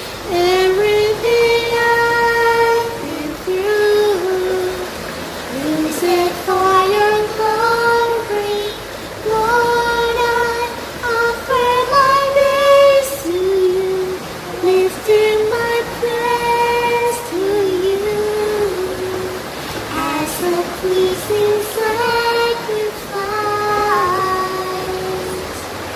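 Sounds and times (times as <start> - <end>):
steady background hiss: 0.0 - 25.9
woman singing slow melody: 0.0 - 25.9.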